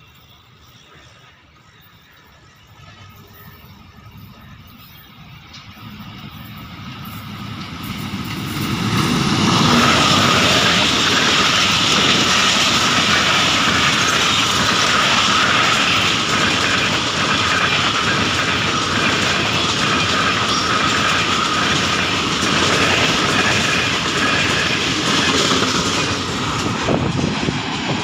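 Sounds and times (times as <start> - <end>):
passenger train passing: 0.0 - 28.0
wheels rushing on rails: 0.0 - 28.0.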